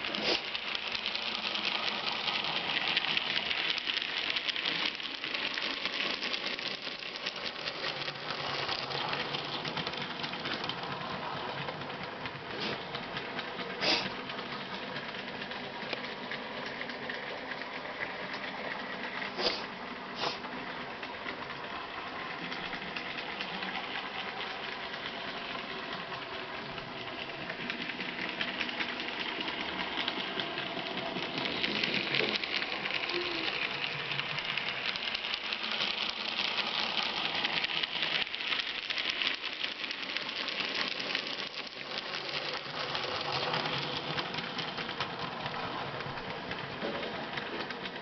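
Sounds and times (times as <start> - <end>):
fine rapid clicking: 0.0 - 19.7, 20.5 - 48.0
model train motor whirring: 0.0 - 48.0.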